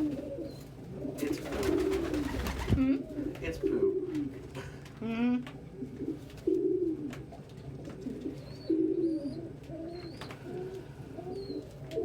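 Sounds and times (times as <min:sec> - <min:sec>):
pigeons cooing: 0:00.0 - 0:04.4, 0:05.7 - 0:12.0.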